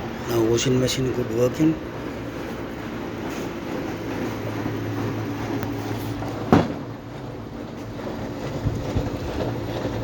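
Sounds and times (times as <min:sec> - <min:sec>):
washing machine motor hum: 0:00.0 - 0:10.0.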